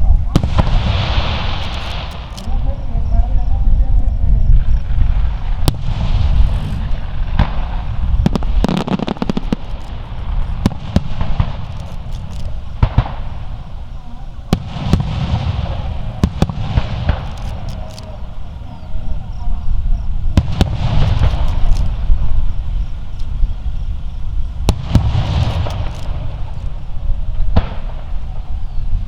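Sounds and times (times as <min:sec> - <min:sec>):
deep low rumble: 0:00.0 - 0:29.0
firework shells bursting: 0:00.0 - 0:29.0
fireworks crackling: 0:00.0 - 0:29.0.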